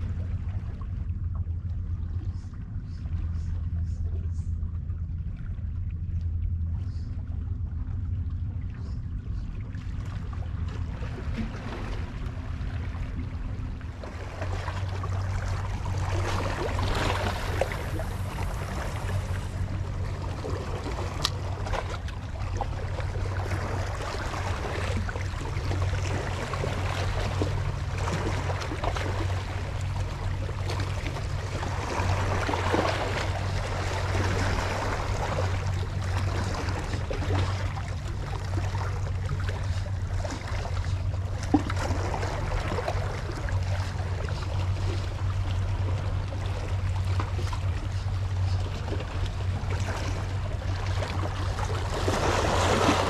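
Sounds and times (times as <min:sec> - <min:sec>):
low hum: 0:00.0 - 0:53.0
water lapping against rocks: 0:09.8 - 0:53.0.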